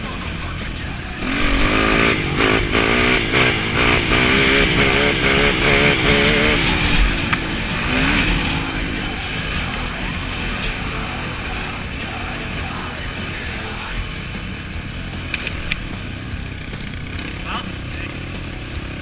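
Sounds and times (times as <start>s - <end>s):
engine revving hard: 0.8s - 19.0s.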